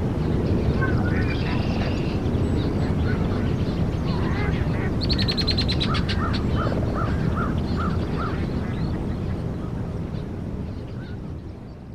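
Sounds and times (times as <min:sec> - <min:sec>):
low outdoor rumble: 0:00.0 - 0:11.9
birds calling: 0:00.2 - 0:11.6.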